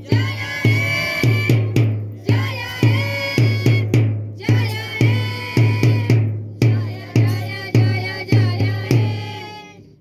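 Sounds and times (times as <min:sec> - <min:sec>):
music with heavy drum beat: 0:00.0 - 0:09.6.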